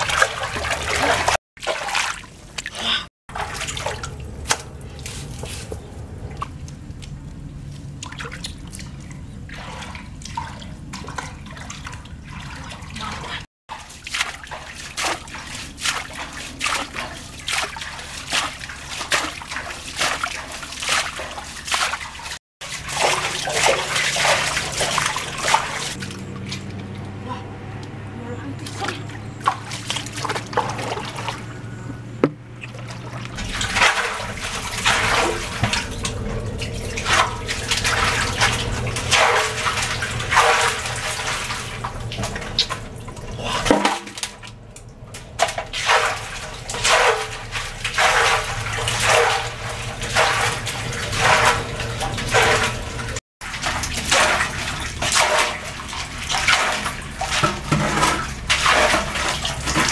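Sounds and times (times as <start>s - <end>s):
muddy water splashing: 0.0s - 59.9s.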